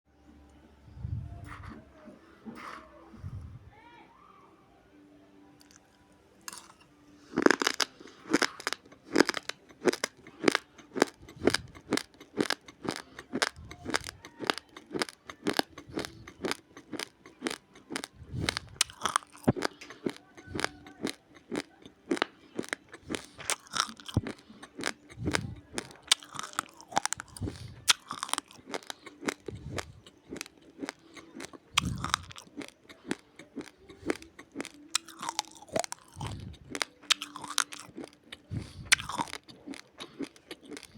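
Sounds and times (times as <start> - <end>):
raw rice being chewed: 5.6 - 40.9.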